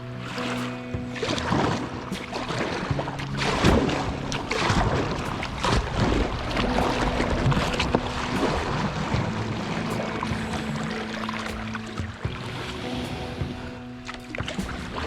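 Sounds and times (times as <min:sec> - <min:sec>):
soft background music: 0:00.0 - 0:15.0
water splashing around kayak: 0:00.0 - 0:15.0.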